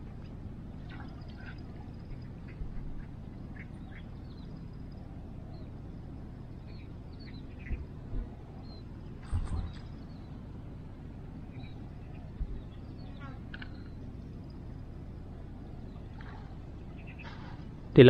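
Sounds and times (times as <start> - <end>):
bird chirps: 0.8 - 5.9, 6.5 - 10.4, 11.4 - 17.7.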